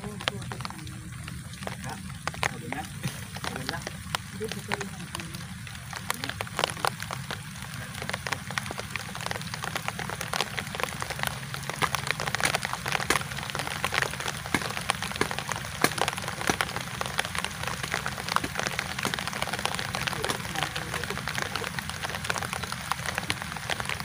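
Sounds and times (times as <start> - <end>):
rain pattering on water: 0.0 - 24.0
raindrop ticks: 0.0 - 24.0.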